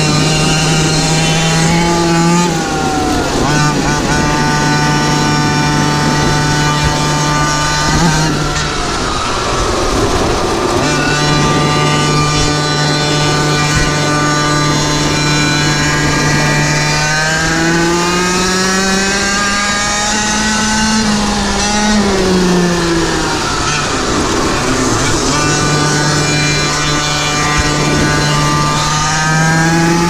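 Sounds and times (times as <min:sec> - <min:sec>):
small engine running at high revs: 0:00.0 - 0:30.0.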